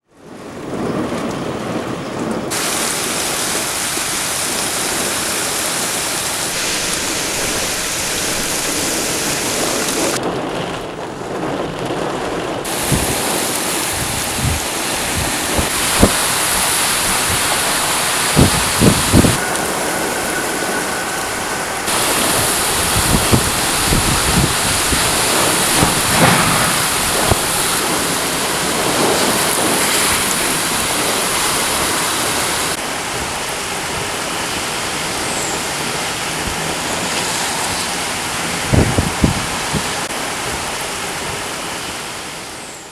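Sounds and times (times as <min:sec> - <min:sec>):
wind buffeting microphone: 0:00.2 - 0:41.4
torrential rain hissing: 0:00.2 - 0:42.9.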